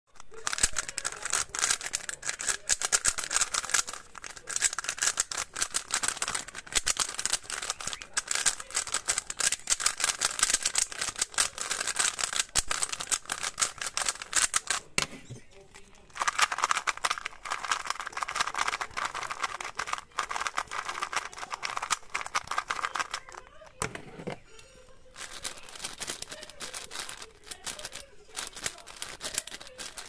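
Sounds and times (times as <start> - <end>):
rubik's cube clicking: 0.2 - 14.8, 16.2 - 23.5, 25.2 - 30.0.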